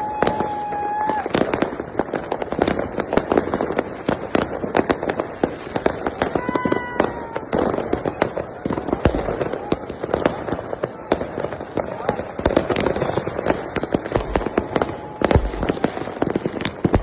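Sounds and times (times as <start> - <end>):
fireworks and firecrackers crackling: 0.0 - 17.0.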